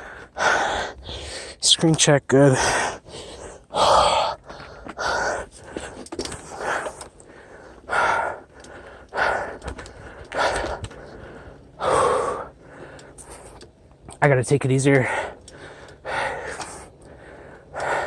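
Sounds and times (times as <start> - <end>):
heavy laboured breathing: 0.0 - 13.7, 15.0 - 18.0.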